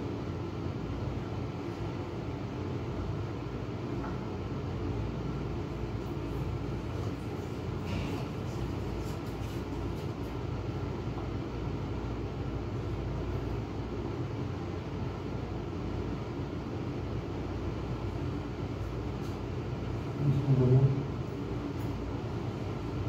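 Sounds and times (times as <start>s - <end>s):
machine hum and rumble: 0.0s - 23.0s.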